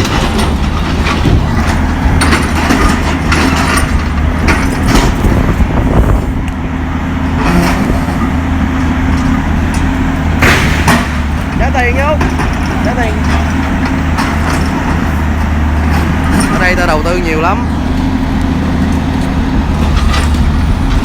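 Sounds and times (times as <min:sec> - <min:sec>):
metal clanks and crunches: 0:00.0 - 0:06.4, 0:07.4 - 0:08.5, 0:09.1 - 0:21.0
excavator diesel engine running: 0:00.0 - 0:21.0.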